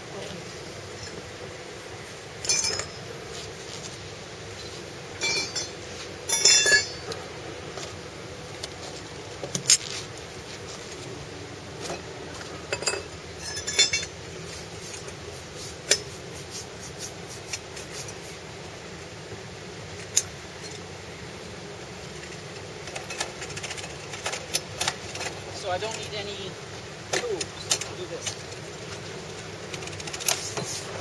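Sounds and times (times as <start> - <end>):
low background noise: 0.0 - 31.0.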